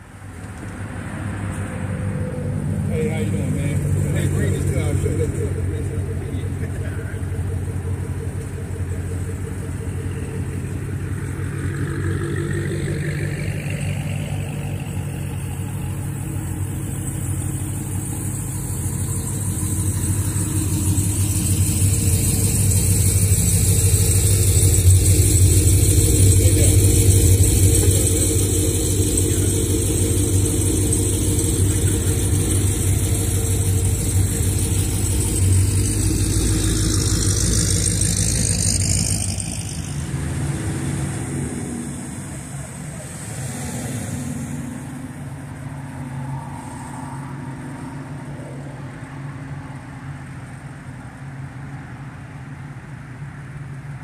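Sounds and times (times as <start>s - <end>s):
car engines idling: 0.0s - 54.0s.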